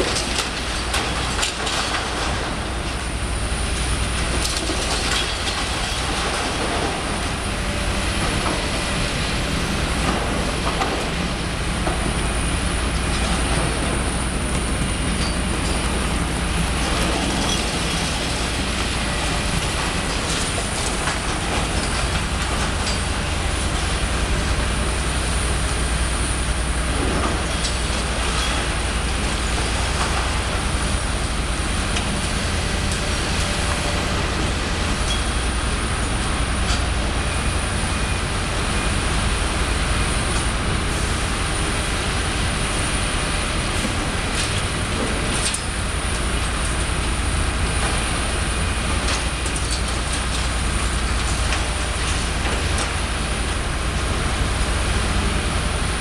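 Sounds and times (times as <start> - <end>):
excavator engine drone: 0.0 - 56.0.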